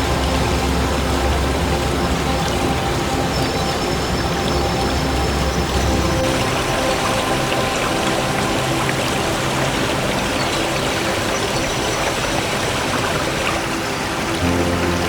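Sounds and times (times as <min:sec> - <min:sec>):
creek cascading over falls: 0:00.0 - 0:15.0
soft background music: 0:00.0 - 0:15.0.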